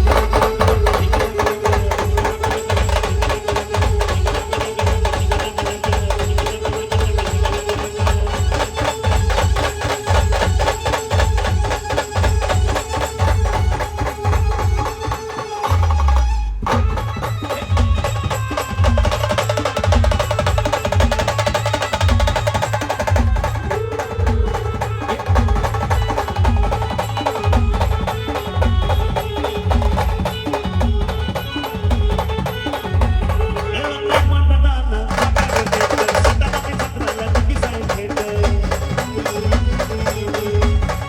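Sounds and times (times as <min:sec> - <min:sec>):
band playing dance song: 0:00.0 - 0:41.0
fast heavy drumming: 0:00.0 - 0:41.0.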